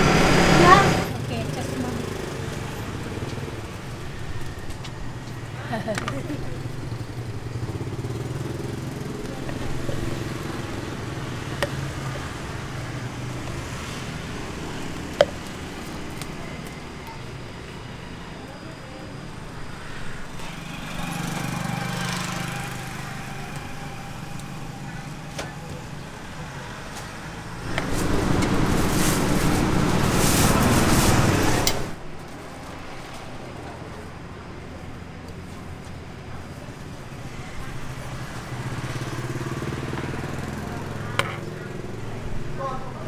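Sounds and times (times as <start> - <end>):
street traffic: 0.0 - 43.0
vehicle engine running: 0.0 - 43.0.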